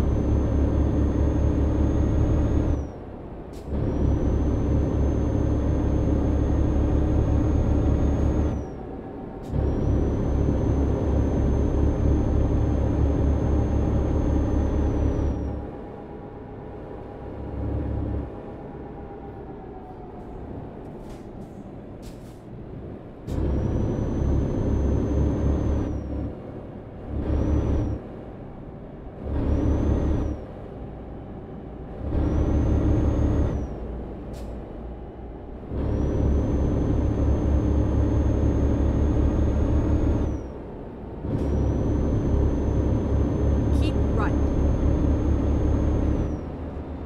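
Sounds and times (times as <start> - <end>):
vehicle low rumble: 0.0 - 47.0.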